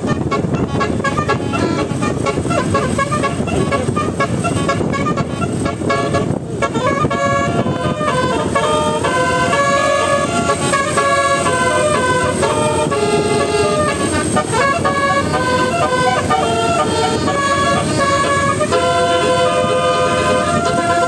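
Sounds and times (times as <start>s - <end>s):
air horn melody: 0.0s - 21.0s
steady noisy rumble: 0.0s - 21.0s.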